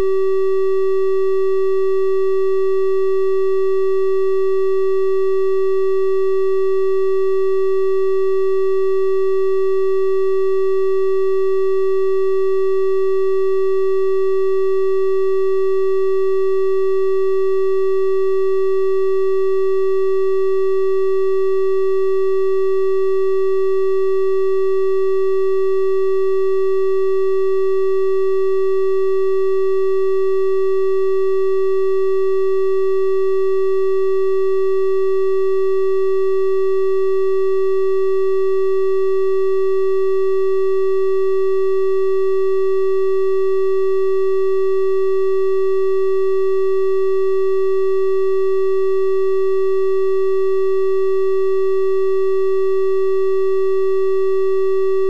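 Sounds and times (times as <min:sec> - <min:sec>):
steady triangle-wave tone: 0:00.0 - 0:55.0.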